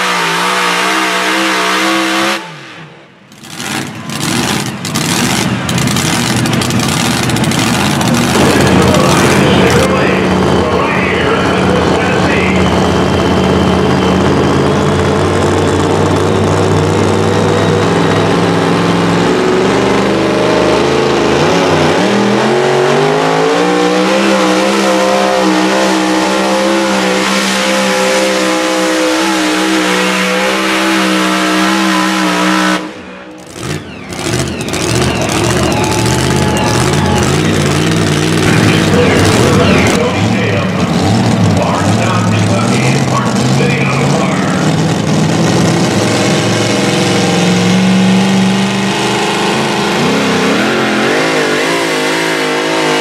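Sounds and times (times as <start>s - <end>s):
supercharged truck engine revving: 0.0s - 53.0s.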